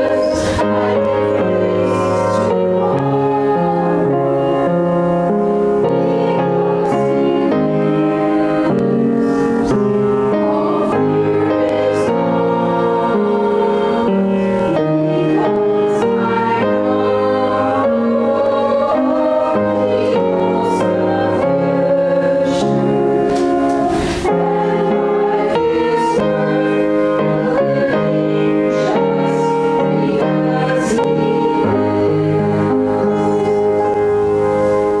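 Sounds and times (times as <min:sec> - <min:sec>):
instrumental accompaniment: 0:00.0 - 0:35.0
women singing a hymn: 0:00.0 - 0:35.0.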